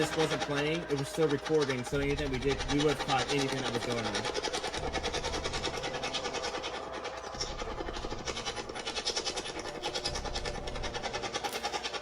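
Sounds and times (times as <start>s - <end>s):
pulsing radio static: 0.0s - 12.0s.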